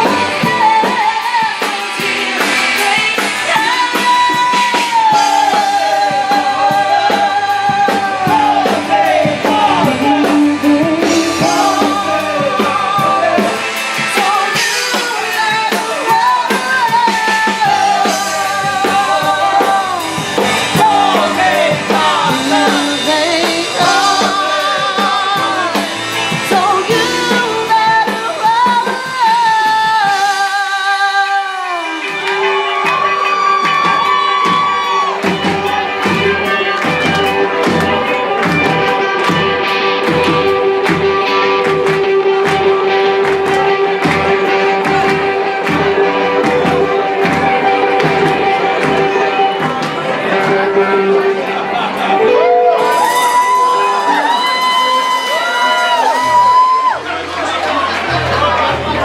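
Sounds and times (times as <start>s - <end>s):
driving drum beat: 0.0s - 52.0s
lead vocalist singing: 0.0s - 56.4s
live band playing: 0.0s - 59.0s.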